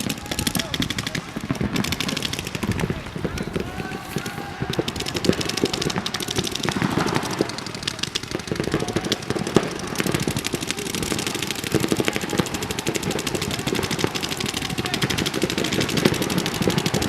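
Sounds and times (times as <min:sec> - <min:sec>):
distant paintball markers firing: 0:00.0 - 0:17.0.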